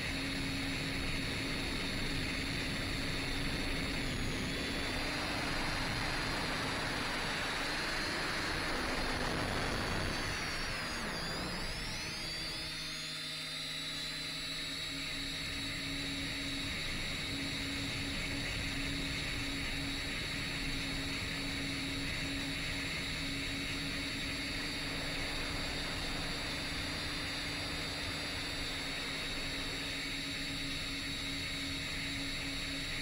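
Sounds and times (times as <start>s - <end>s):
drone motors whining in flight: 0.0s - 33.0s.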